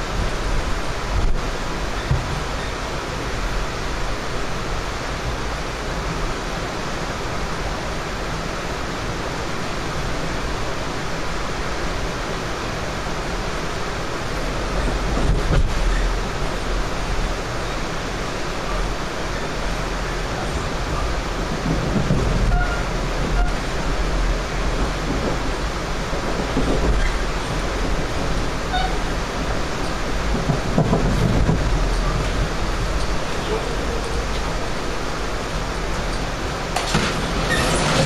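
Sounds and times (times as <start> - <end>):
low train rumble: 0.0 - 38.0
train ride noise from inside: 0.0 - 38.0.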